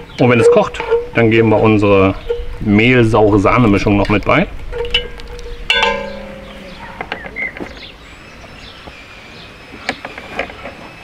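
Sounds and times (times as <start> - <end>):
low steady hum: 0.0 - 9.7
bird chirps: 0.0 - 10.2.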